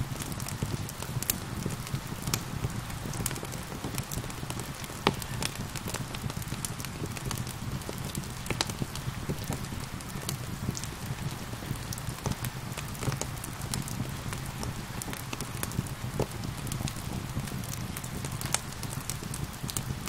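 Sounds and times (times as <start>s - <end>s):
gentle rain hiss: 0.0s - 20.0s
wood fire crackling: 0.0s - 20.0s.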